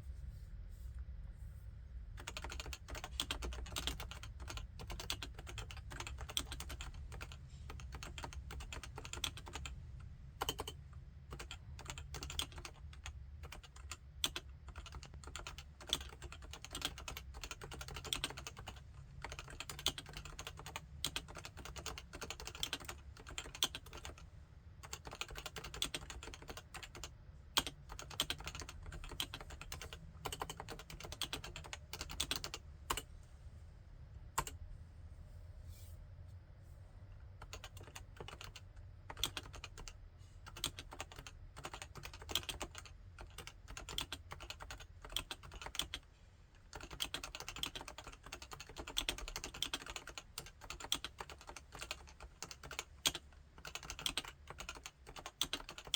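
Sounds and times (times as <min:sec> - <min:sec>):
keyboard typing: 0:02.2 - 0:09.7, 0:10.4 - 0:24.2, 0:24.8 - 0:33.0, 0:34.4 - 0:34.6, 0:37.4 - 0:46.0, 0:46.7 - 0:55.9.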